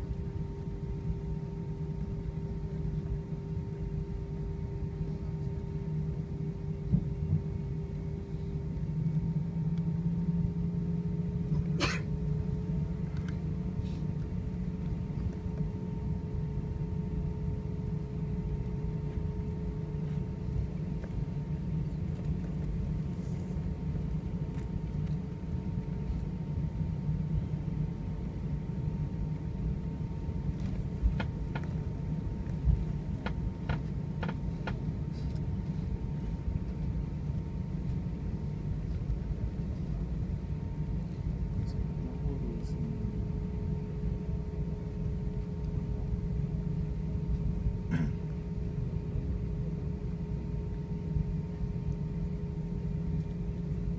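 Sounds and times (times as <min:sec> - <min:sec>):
aircraft cabin rumble: 0:00.0 - 0:53.9
steady hum: 0:00.0 - 0:53.9.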